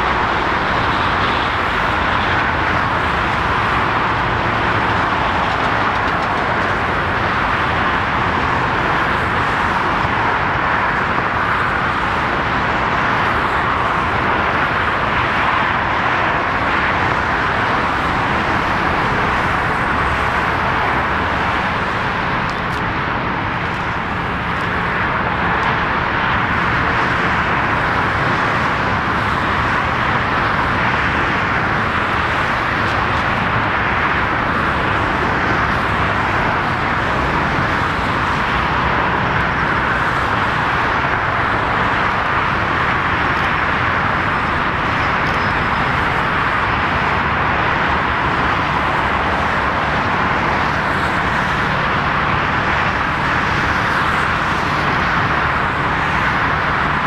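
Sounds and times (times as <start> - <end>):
roar of engines and traffic: 0.0 - 57.0.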